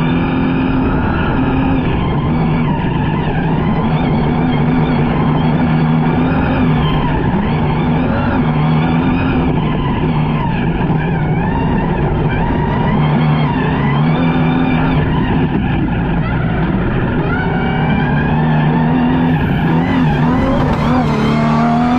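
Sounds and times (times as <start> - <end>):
rally car engine revving: 0.0 - 21.9.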